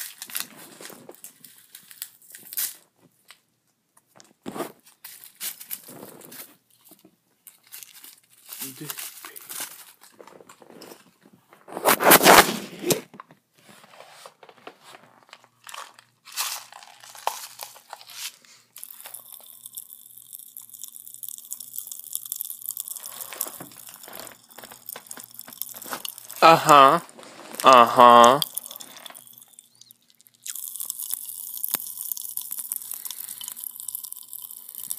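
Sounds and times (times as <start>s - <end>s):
chewing and crunching candy: 0.0s - 2.8s, 5.0s - 11.2s, 15.2s - 34.9s
candy crackles: 0.0s - 3.5s, 4.1s - 13.1s, 14.5s - 34.9s.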